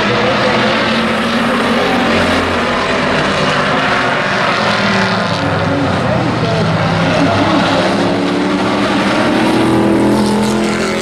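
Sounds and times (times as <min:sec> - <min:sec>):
race truck engines roaring: 0:00.0 - 0:11.0.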